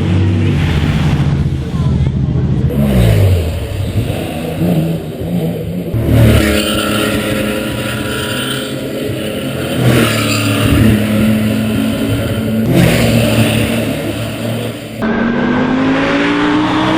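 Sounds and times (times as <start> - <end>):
racing car engine accelerating: 0.0 - 16.9.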